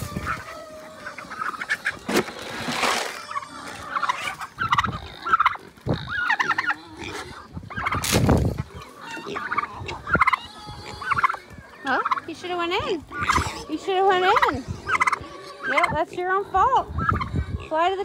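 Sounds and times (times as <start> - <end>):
turkey gobbling: 0.0 - 17.9.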